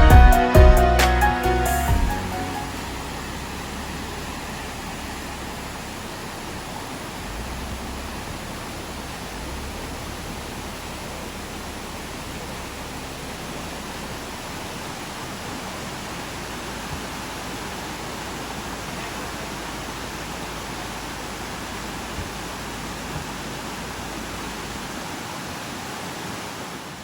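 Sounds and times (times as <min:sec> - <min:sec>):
fast-flowing stream rushing: 0:00.7 - 0:27.0.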